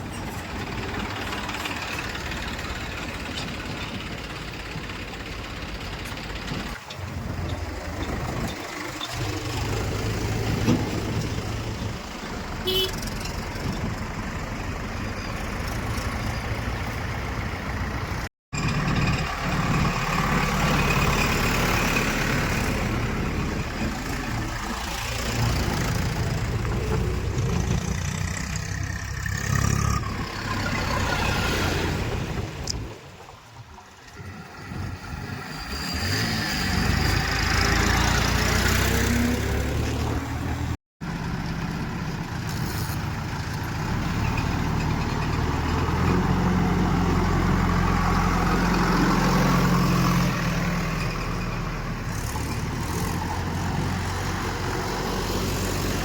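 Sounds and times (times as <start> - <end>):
heavy diesel engines revving: 0.0 - 32.9, 34.1 - 56.0.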